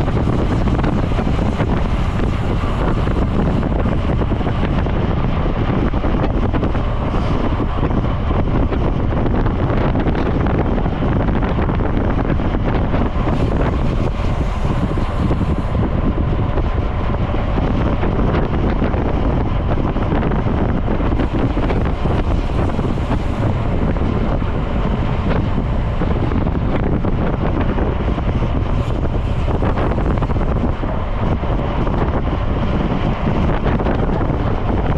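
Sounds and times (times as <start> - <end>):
wind noise on microphone: 0.0 - 34.9.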